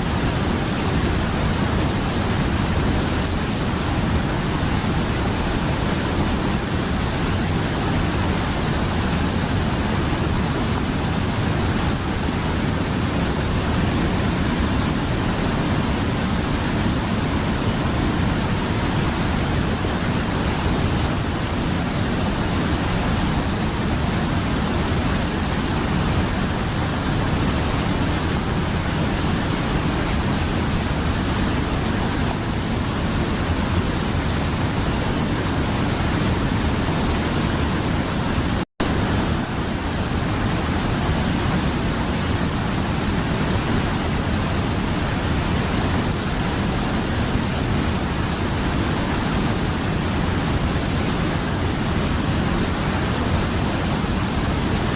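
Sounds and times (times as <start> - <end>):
river flowing: 0.0 - 54.9.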